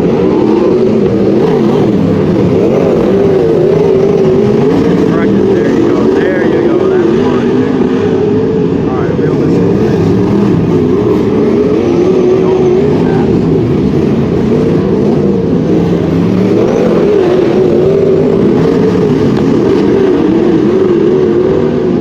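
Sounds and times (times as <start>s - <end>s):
race car engines running hard: 0.0s - 22.0s.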